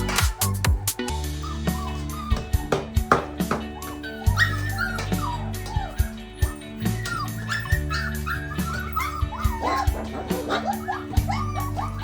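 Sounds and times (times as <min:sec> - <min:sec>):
background music: 0:00.0 - 0:12.0
dogs whimpering and yipping: 0:00.0 - 0:12.0.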